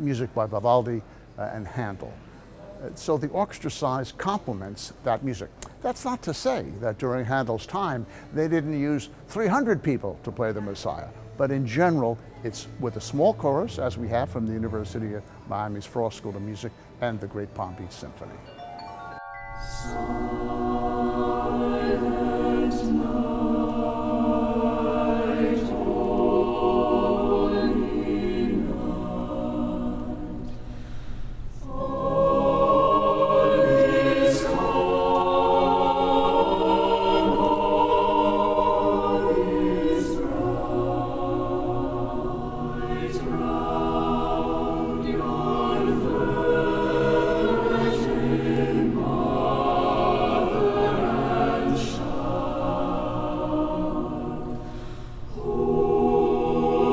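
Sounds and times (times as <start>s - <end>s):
choir singing sustained chords: 6.5s - 56.9s.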